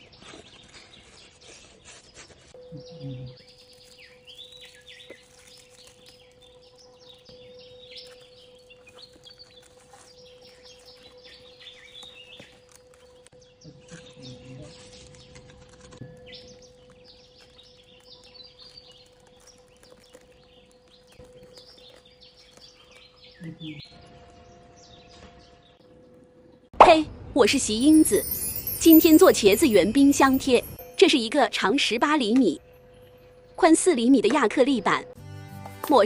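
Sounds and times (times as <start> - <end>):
small birds chirping: 0.0 - 26.7, 27.4 - 35.1.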